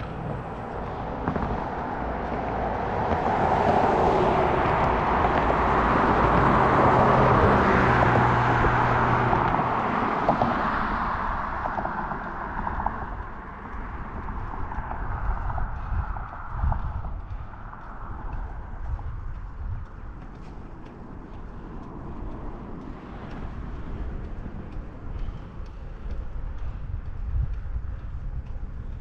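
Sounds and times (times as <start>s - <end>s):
motor vehicle passing: 0.0s - 29.0s.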